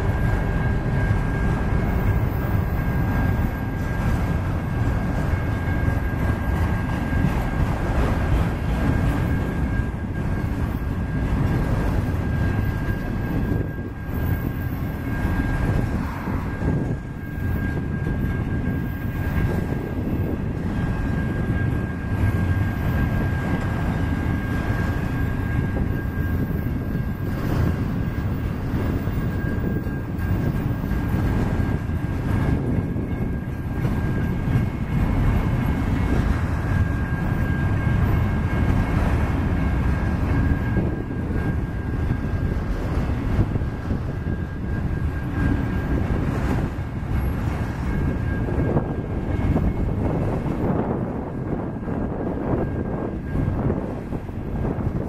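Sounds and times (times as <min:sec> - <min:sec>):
freight wheels rumbling on rails: 0:00.0 - 0:55.0.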